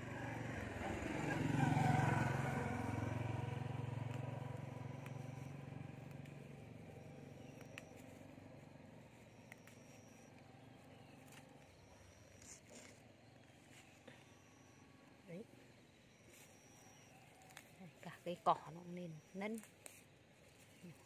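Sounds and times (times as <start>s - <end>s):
passing vehicle engine hum: 0.0s - 21.0s.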